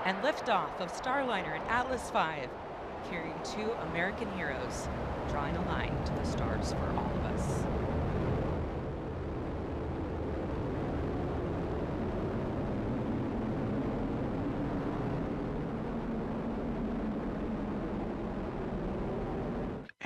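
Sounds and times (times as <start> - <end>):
rocket launch roar: 0.0 - 19.8.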